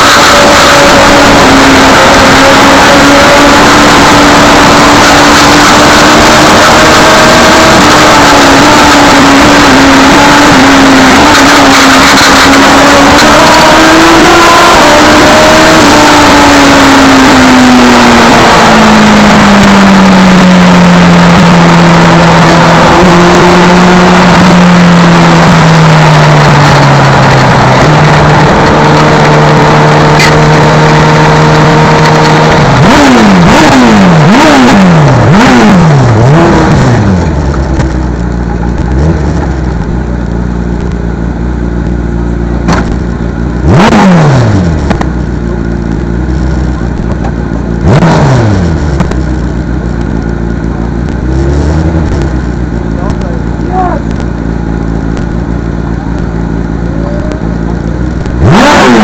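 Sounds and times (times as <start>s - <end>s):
race car engine idling and blipping: 0.0s - 59.0s.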